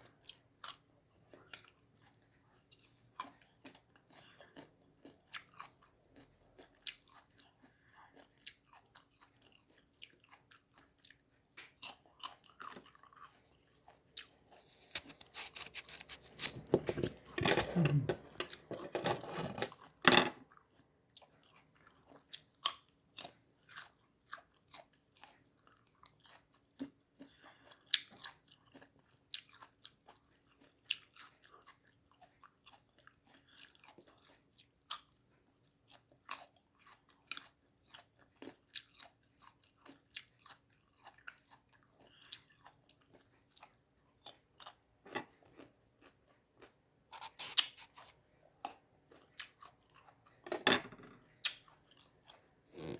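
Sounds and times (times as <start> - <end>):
mango being bitten and chewed: 0.1 - 18.9, 19.7 - 50.4, 51.2 - 52.9.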